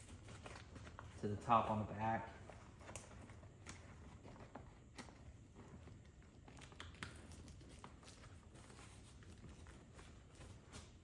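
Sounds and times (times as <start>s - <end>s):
faint clicks and rustles: 0.0s - 11.0s.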